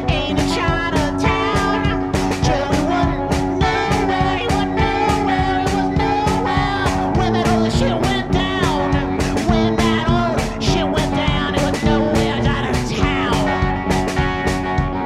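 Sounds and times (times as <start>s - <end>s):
drums beating: 0.0s - 15.0s
guitar: 0.0s - 15.0s
rock band playing: 0.0s - 15.0s.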